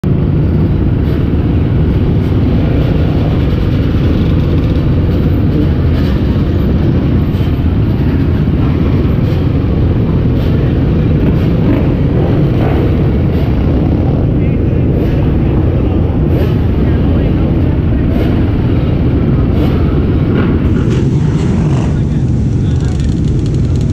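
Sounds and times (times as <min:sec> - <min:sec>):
dirt bike and atv engines rumbling: 0:00.0 - 0:23.9.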